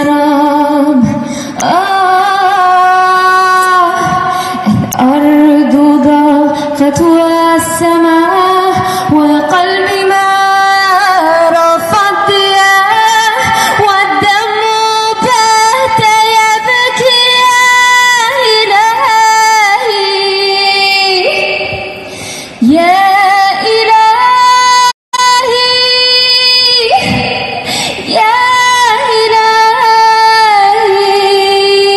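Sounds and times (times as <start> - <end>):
woman singing through amplifier: 0.0 - 31.9.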